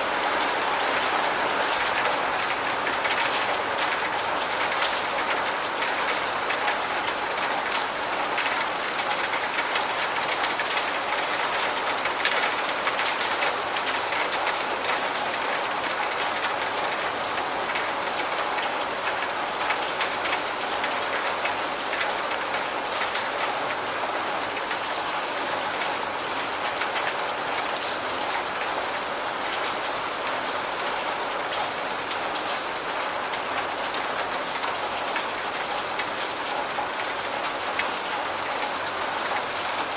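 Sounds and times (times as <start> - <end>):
steady rain falling: 0.0 - 39.9
raindrops ticking: 0.1 - 39.9.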